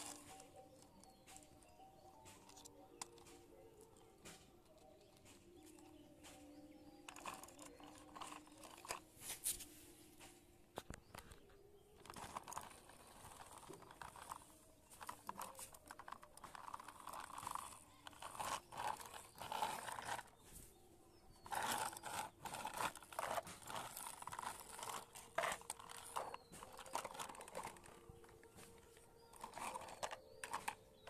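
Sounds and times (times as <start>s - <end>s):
plastic toys clattering: 0.0s - 9.6s, 10.2s - 31.0s
plastic toys scraping on concrete: 0.0s - 31.0s.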